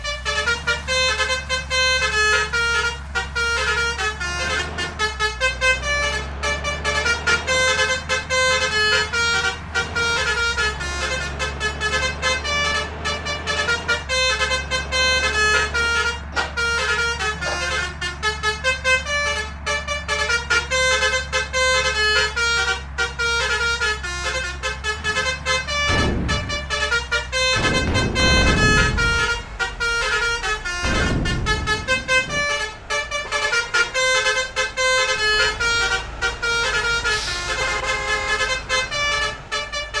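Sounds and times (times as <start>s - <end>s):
low engine hum: 0.0s - 40.0s
musical air horn playing: 0.0s - 40.0s
deep rumbles: 2.6s - 40.0s.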